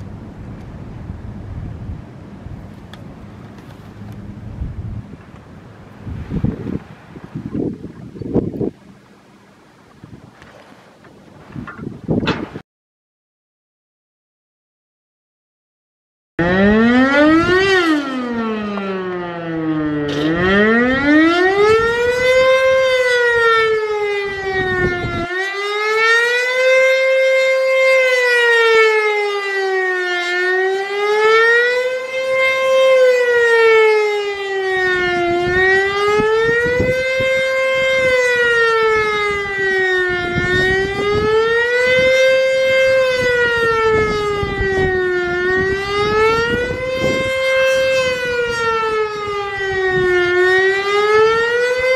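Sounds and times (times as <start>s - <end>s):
outdoor warning siren wailing: 0.0s - 8.8s, 16.4s - 51.9s.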